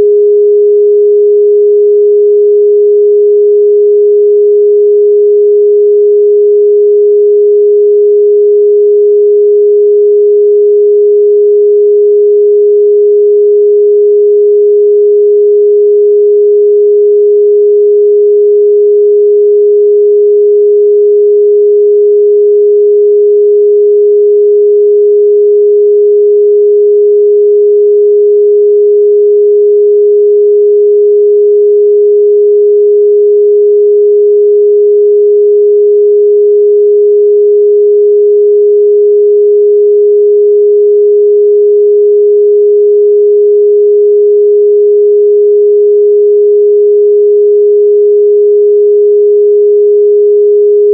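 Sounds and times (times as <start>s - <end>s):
sine wave test tone: 0.0s - 50.9s.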